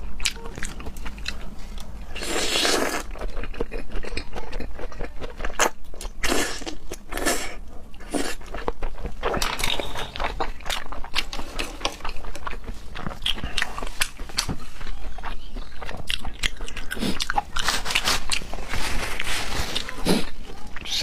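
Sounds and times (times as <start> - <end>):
chewing and biting seafood: 0.0 - 21.0.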